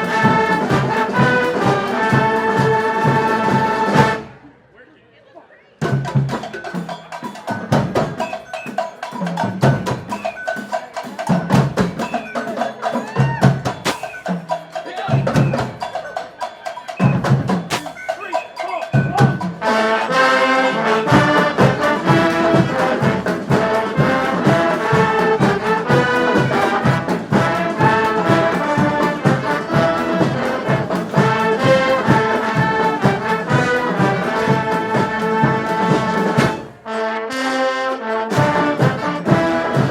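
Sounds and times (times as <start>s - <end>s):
steady drumbeat: 0.0s - 4.2s, 5.8s - 36.8s, 38.3s - 39.9s
brass band playing: 0.0s - 4.5s, 5.8s - 39.9s.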